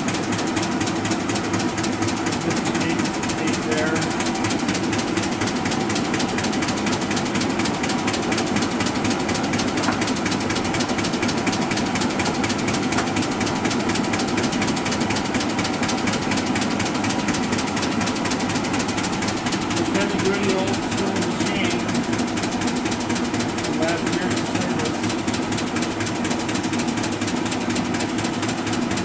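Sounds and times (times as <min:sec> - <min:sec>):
belt drive clicking rapidly: 0:00.0 - 0:29.0
surface grinder running: 0:00.0 - 0:29.0.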